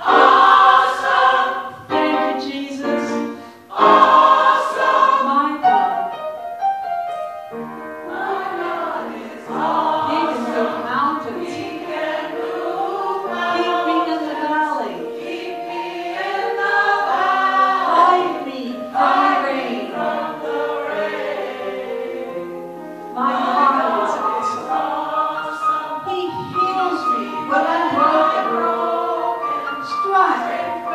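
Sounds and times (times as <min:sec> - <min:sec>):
gospel choir singing in harmony: 0:00.0 - 0:06.4, 0:07.6 - 0:30.9.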